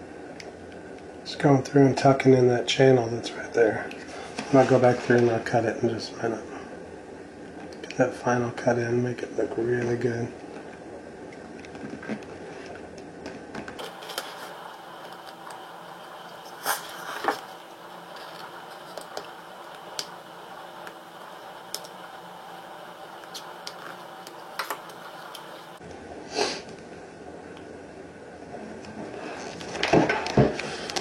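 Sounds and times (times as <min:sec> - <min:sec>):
room hum: 0:00.0 - 0:31.0.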